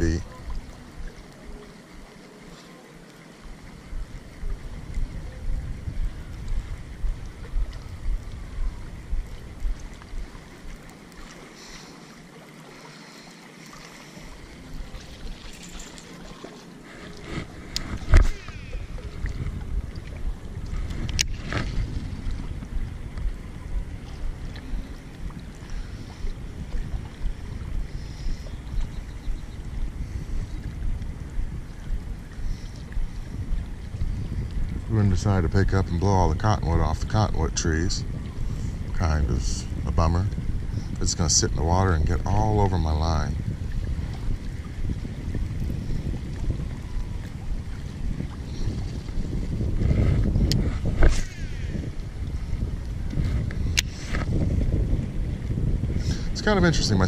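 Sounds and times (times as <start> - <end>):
wind buffeting microphone: 0.0 - 2.5, 3.4 - 11.2, 14.2 - 57.0.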